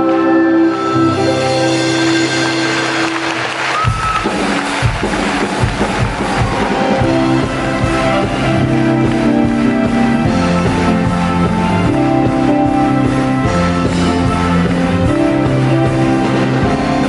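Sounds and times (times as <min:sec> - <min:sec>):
guitar chords: 0:00.0 - 0:17.0
drum and bass beat: 0:01.8 - 0:17.0.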